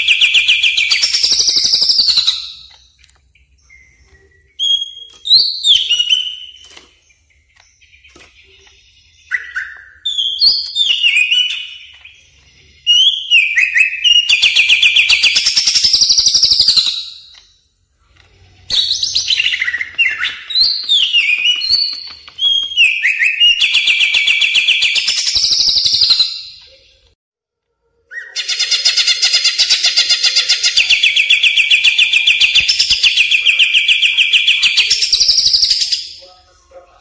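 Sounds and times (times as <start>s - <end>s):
bird singing whistled notes and trills: 0.0s - 17.8s, 18.6s - 27.2s, 28.0s - 36.4s.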